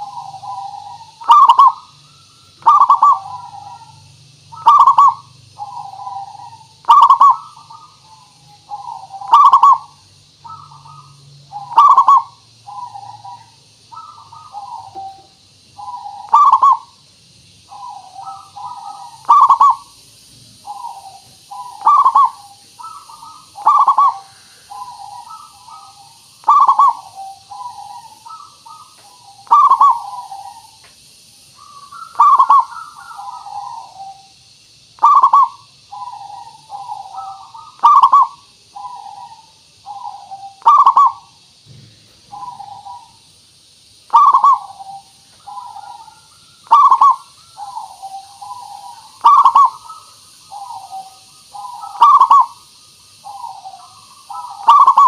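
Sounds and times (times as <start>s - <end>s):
dove cooing: 0.0s - 17.0s, 17.6s - 30.8s, 31.5s - 34.4s, 35.0s - 43.2s, 44.0s - 55.0s.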